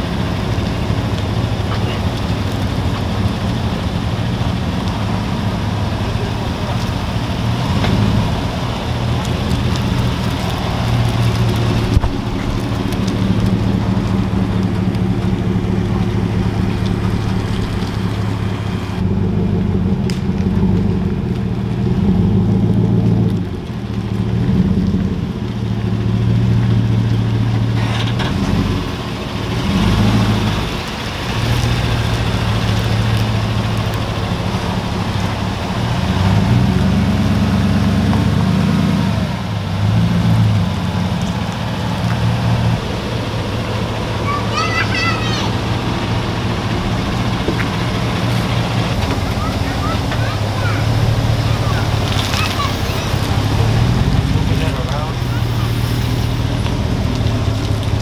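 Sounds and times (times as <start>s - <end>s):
pickup truck engine running: 0.0s - 58.0s.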